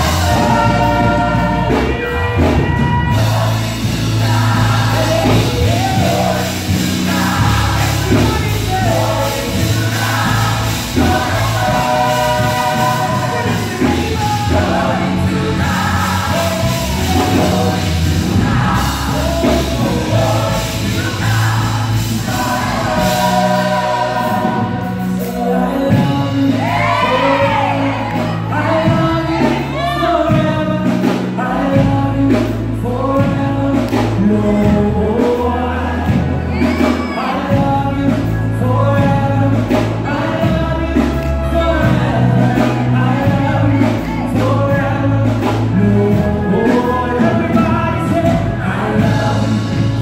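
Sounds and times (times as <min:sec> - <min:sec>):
gospel group singing in harmony: 0:00.0 - 0:50.0
lead singer: 0:00.0 - 0:50.0
live instrumental backing: 0:00.0 - 0:50.0.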